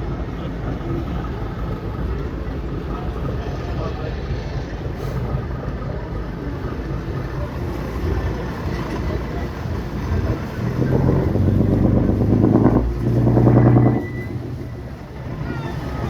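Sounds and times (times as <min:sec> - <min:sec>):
boat engine running: 0:00.0 - 0:16.0
wash of moving water: 0:00.0 - 0:16.0.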